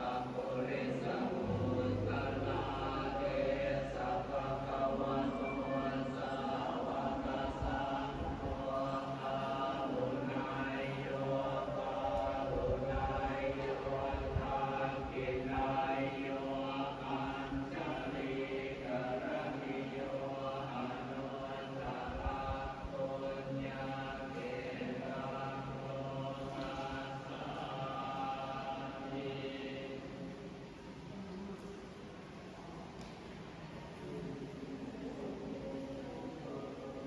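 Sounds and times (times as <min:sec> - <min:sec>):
group chanting in unison: 0:00.0 - 0:30.6.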